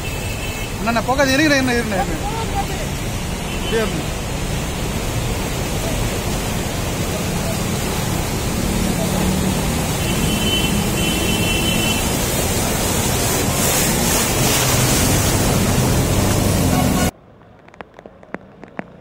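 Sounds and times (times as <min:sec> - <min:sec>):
floodwater churning and splashing: 0:00.0 - 0:17.1.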